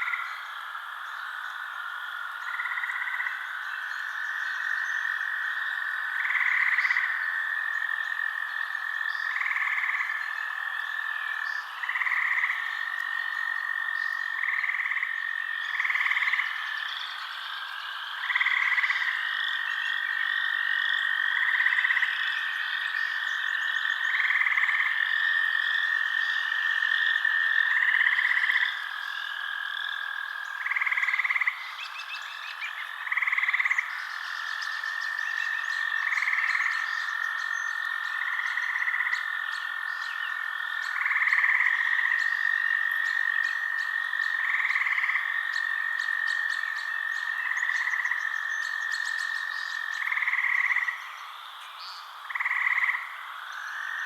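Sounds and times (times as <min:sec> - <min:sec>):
frog calling loudly: 0:00.0 - 0:54.0
frogs trilling: 0:00.0 - 0:54.0
higher frog calls and ticks: 0:00.0 - 0:54.0.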